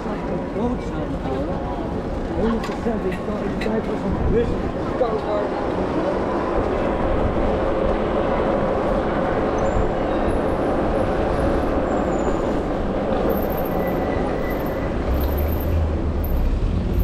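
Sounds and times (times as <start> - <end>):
e-bike ride noise: 0.0 - 17.0.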